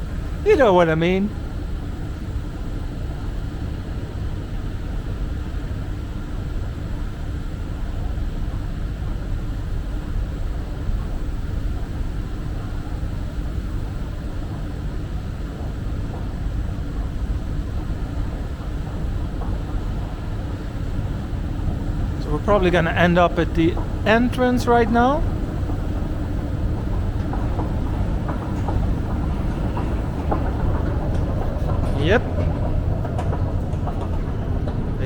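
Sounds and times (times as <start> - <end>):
faint steady hum: 0.0 - 35.0
low rumble of metro station: 0.0 - 35.0.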